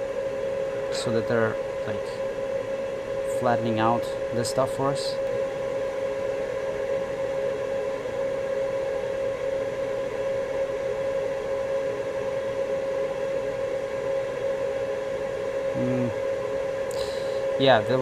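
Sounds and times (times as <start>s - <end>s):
machine hum with steady tone: 0.0s - 18.0s.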